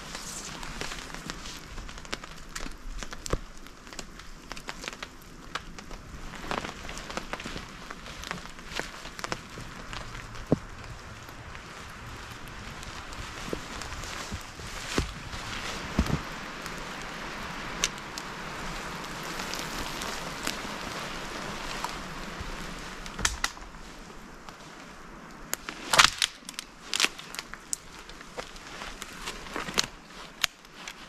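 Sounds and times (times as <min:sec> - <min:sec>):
branches snapping: 0:00.0 - 0:24.6, 0:25.2 - 0:31.0
background hiss: 0:00.0 - 0:31.0.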